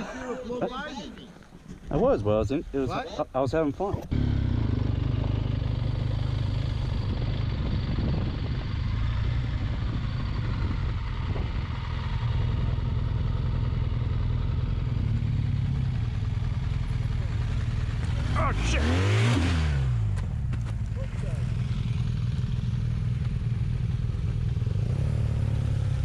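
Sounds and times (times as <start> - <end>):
wind and tyre noise: 0.0 - 26.0
motorcycle engine running: 4.0 - 26.0.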